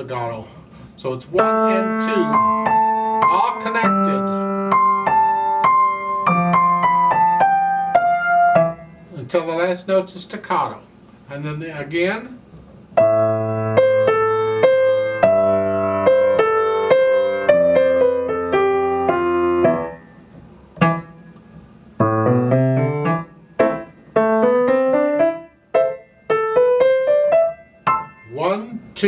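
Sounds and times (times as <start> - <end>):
grand piano playing: 1.3 - 9.6, 12.9 - 28.9.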